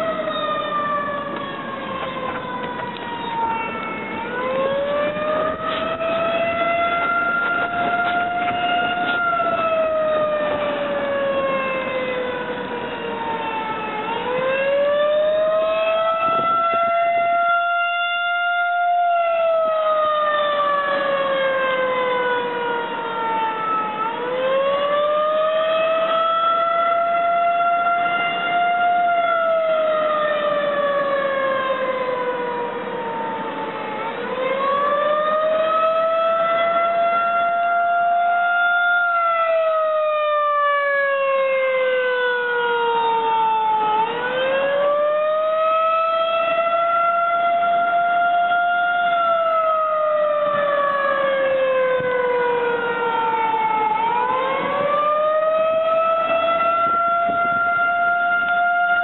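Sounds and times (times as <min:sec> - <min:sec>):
warning siren wailing: 0:00.0 - 0:59.0.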